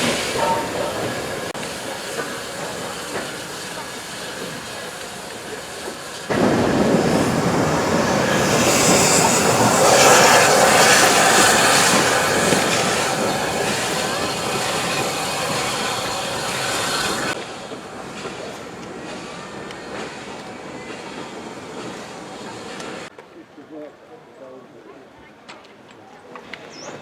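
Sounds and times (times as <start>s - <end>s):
train wheels clattering on rails: 0.0s - 23.2s.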